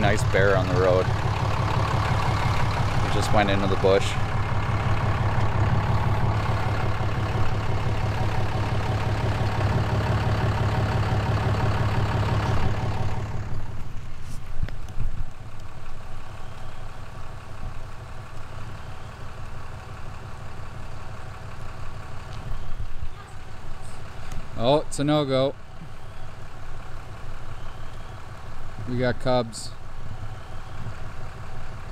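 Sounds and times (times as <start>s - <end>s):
engine idling: 0.0s - 31.9s
vehicle driving on gravel: 0.0s - 31.9s.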